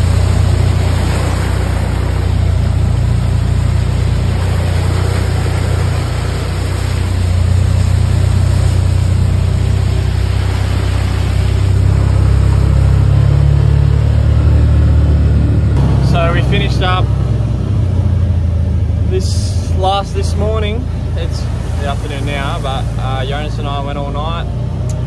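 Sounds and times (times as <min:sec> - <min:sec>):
farm vehicle engine droning: 0:00.0 - 0:25.0.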